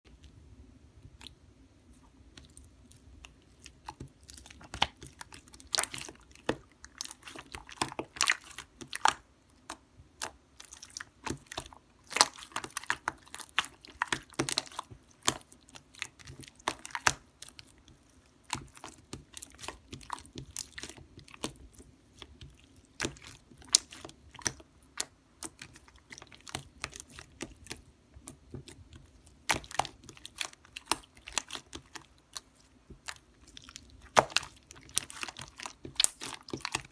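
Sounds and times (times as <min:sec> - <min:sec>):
hands squishing slime: 0:01.0 - 0:36.9.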